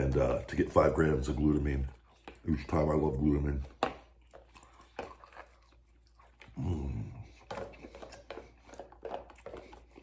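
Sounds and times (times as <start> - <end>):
chewing: 0.0 - 10.0.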